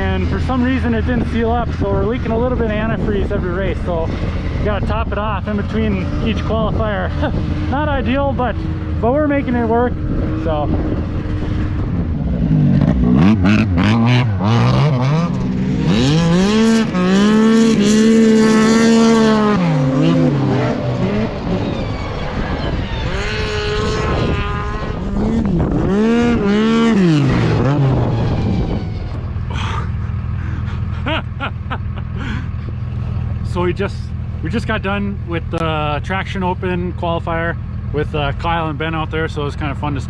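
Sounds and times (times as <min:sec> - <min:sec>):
snowmobile engines revving: 0:00.0 - 0:40.0.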